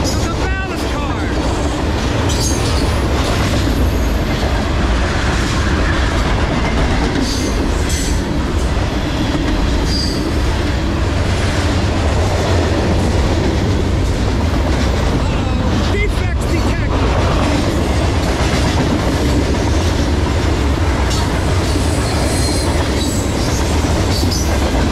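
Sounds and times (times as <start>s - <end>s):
freight cars rumbling on rails: 0.0s - 24.9s.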